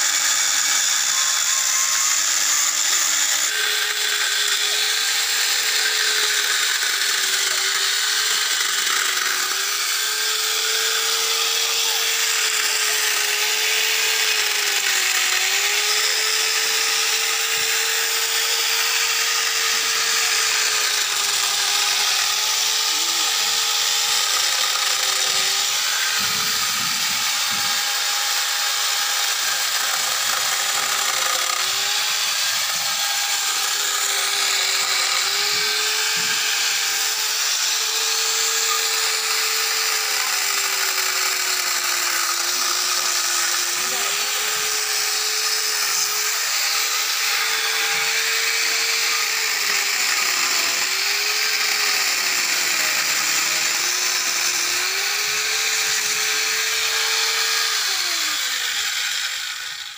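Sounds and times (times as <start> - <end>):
electric chainsaw cutting wood: 0.0 - 59.9.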